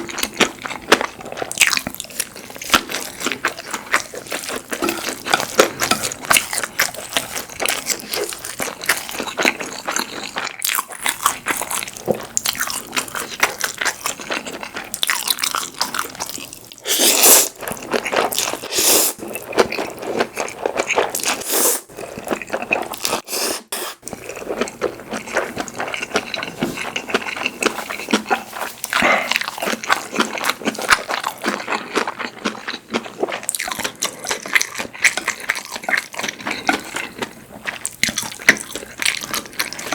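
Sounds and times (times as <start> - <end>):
wet chewing and crunching: 0.0 - 23.3, 24.0 - 39.9.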